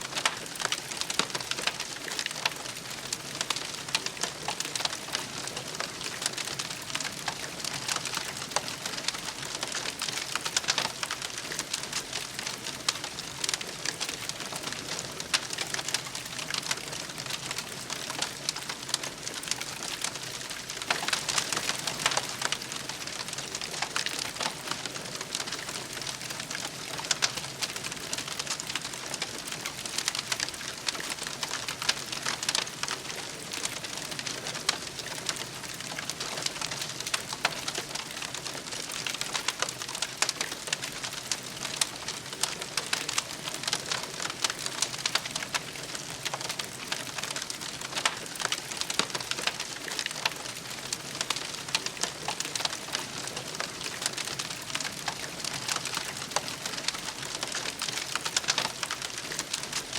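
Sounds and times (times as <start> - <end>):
campfire crackling: 0.1 - 59.9.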